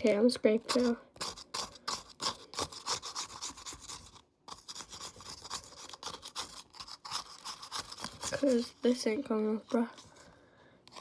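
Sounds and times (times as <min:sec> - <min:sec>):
scratchy scraping strokes: 0:00.6 - 0:11.0.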